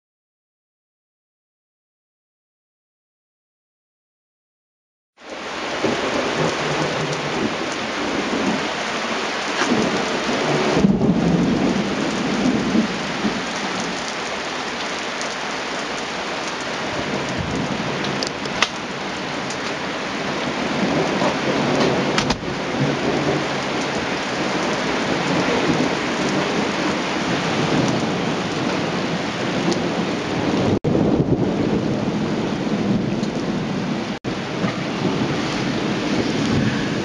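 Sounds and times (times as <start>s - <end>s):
heavy rain pouring: 5.2s - 37.0s
thunder rumbling: 5.3s - 37.0s.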